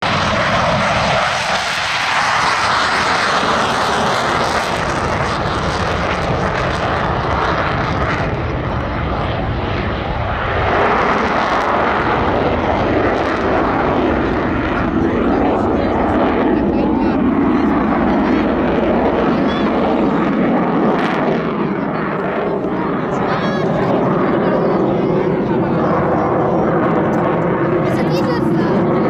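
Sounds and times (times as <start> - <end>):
aircraft engine rushing: 0.0 - 29.0.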